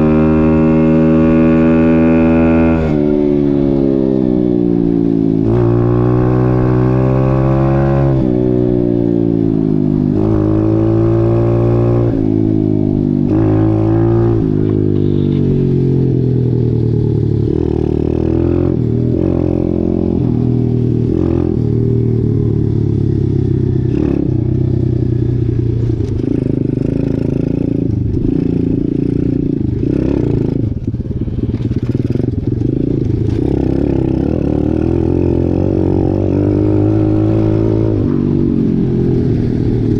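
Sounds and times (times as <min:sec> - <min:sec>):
dirt bike engine revving: 0:00.0 - 0:04.3, 0:05.4 - 0:16.1, 0:17.4 - 0:22.0, 0:26.0 - 0:39.9.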